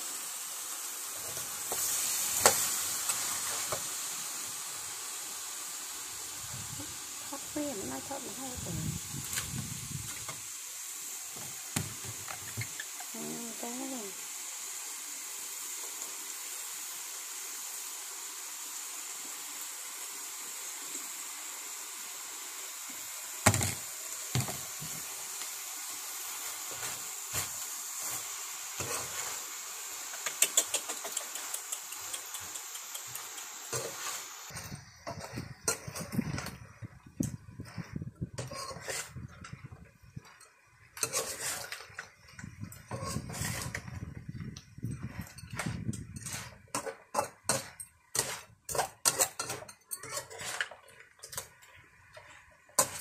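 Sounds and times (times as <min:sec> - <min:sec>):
food sizzling in a frying pan: 0:00.0 - 0:53.0.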